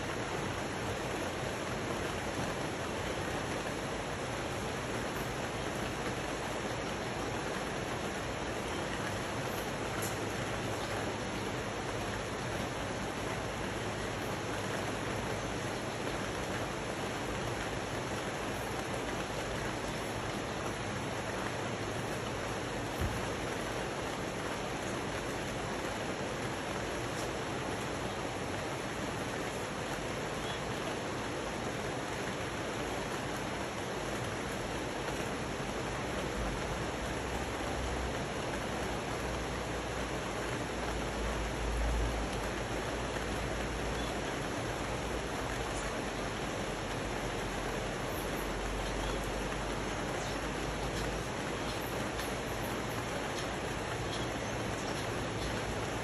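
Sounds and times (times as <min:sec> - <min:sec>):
rain falling on foliage: 0:00.0 - 0:56.0
rushing river: 0:00.0 - 0:56.0.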